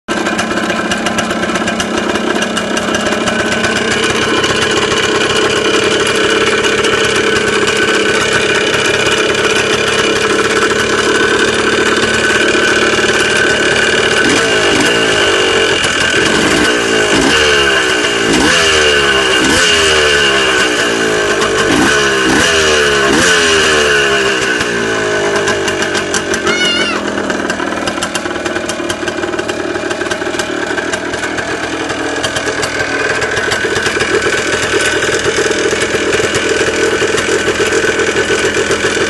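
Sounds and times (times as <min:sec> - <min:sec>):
engine knocking: 0:00.1 - 0:39.0
two-stroke engine running: 0:00.1 - 0:39.0.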